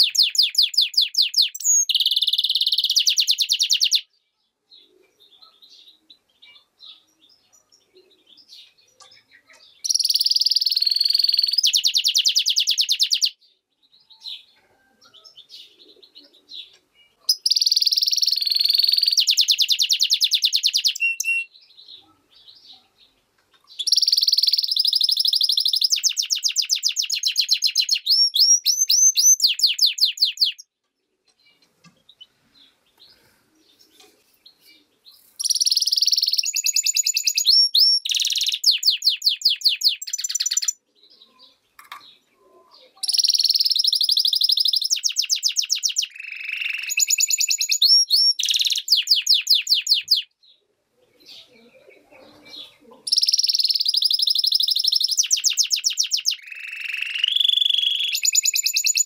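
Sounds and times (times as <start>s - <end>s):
bird singing twittering trills: 0.0s - 59.0s.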